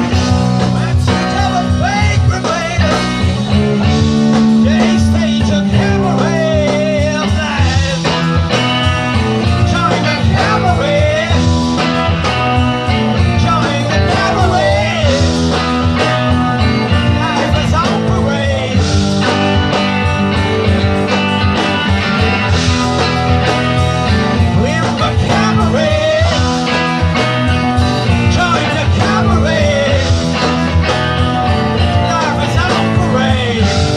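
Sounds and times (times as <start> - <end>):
bass notes: 0.0 - 33.9
electric guitar bending notes: 0.0 - 33.9
rock band playing live: 0.0 - 33.9.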